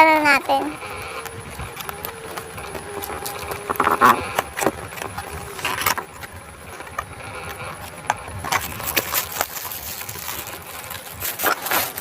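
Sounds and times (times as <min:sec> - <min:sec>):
packaging rustling: 0:00.8 - 0:12.0.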